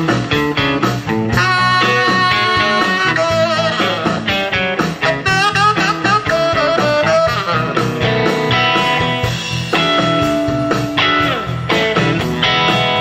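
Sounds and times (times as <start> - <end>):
band playing blues music: 0.0 - 13.0
bass line: 0.0 - 13.0
guitar: 0.0 - 13.0.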